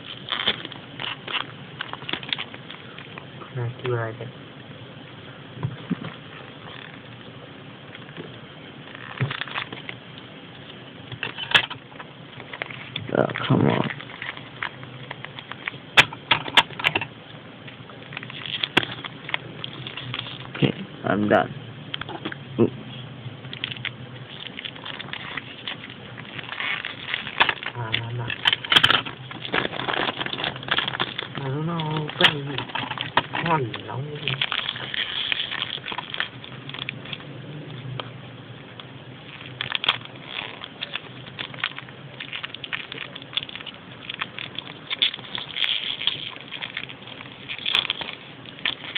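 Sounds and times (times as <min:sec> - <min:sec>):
plastic packaging crackling: 0:00.0 - 0:22.7, 0:23.4 - 0:48.9.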